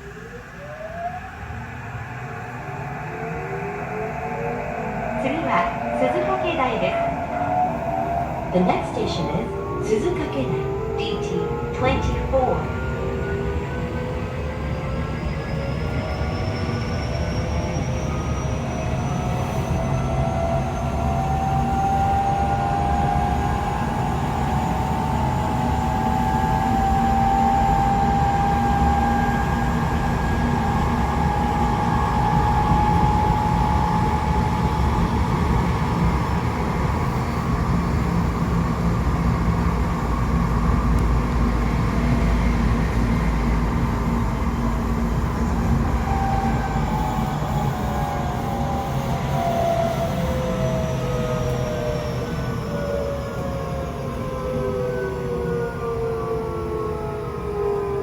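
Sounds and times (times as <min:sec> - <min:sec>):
traction motor and gear whine: 0:00.0 - 0:58.0.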